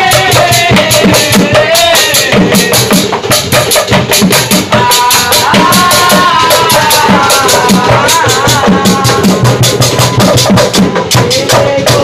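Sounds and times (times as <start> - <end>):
group of men chanting: 0.0 - 3.1, 4.5 - 12.0
drums beating fast rhythm: 0.0 - 12.0.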